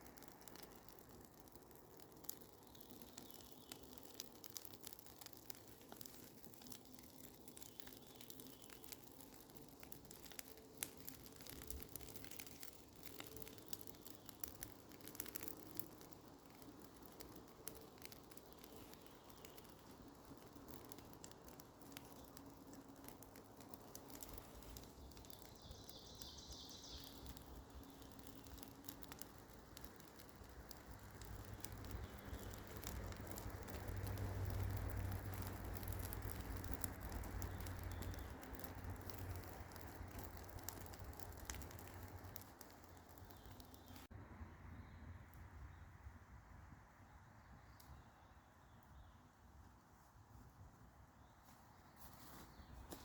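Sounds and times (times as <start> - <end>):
rain pattering: 0.0 - 44.1.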